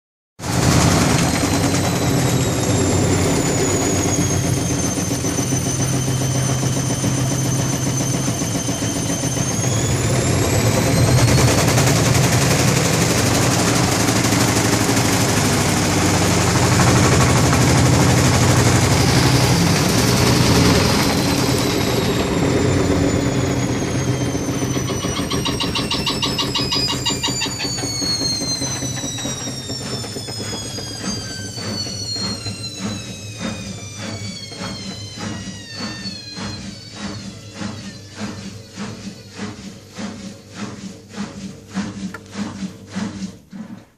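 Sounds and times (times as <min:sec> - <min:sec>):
high motor whine: 0:00.5 - 0:40.6.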